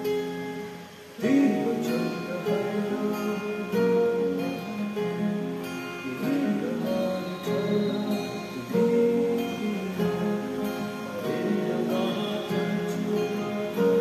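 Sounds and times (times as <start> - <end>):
acoustic guitars playing: 0.0 - 14.0
boy singing softly: 1.2 - 14.0.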